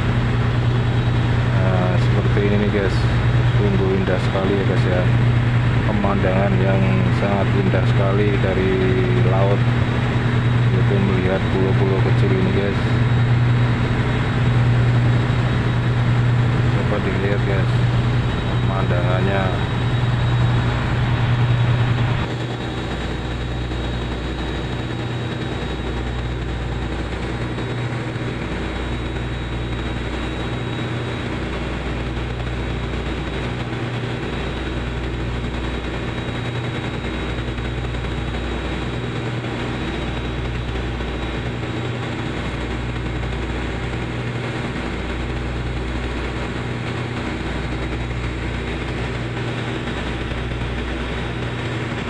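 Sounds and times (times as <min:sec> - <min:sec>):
boat diesel engines throbbing: 0:00.0 - 0:52.0.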